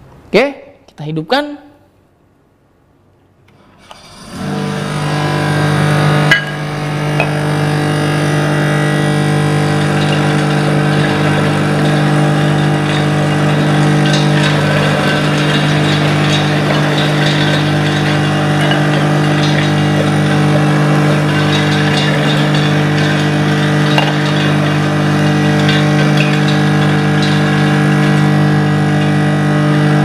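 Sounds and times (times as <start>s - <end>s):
electric motor humming: 3.8s - 30.0s
soybeans being ground: 4.2s - 30.0s.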